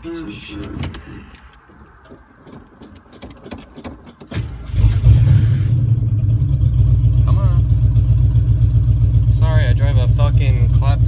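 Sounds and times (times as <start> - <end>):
engine cranking and rumbling: 0.0 - 11.0.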